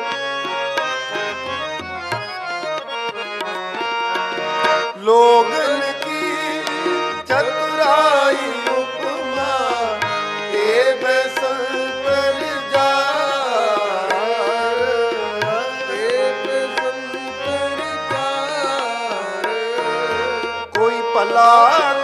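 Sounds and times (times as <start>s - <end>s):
harmonium drone: 0.0s - 22.0s.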